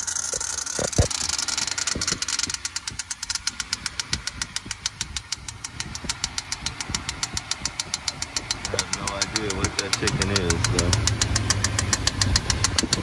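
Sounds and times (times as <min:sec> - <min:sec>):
car engine idling: 0:00.0 - 0:13.0
rapid even ticking: 0:00.0 - 0:13.0.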